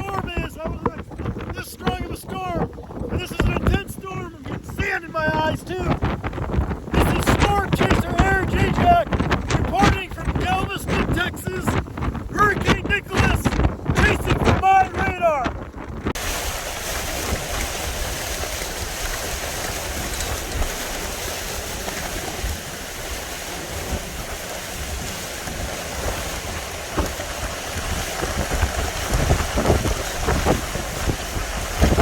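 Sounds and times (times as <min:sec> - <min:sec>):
rush of wind: 0:00.0 - 0:32.0
surf: 0:00.0 - 0:32.0
wind buffeting microphone: 0:00.0 - 0:32.0.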